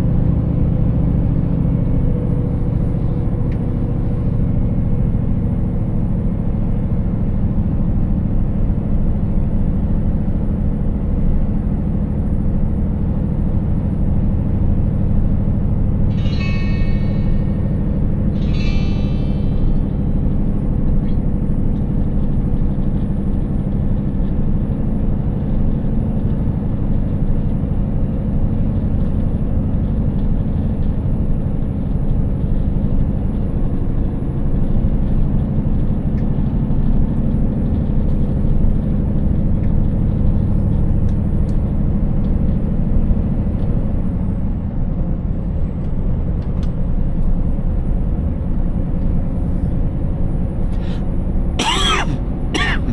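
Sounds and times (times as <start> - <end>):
truck engine rumbling while driving: 0.0 - 52.9.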